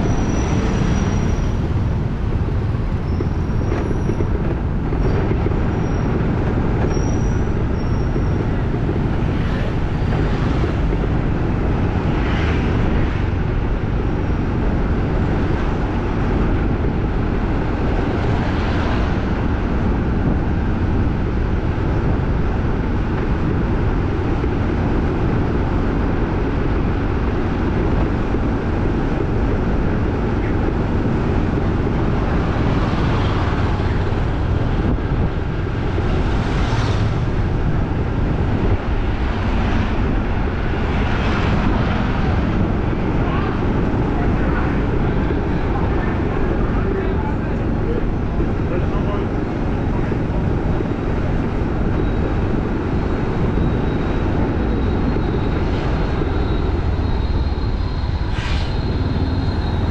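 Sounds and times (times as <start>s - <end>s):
traffic passing rumble: 0.0s - 59.9s.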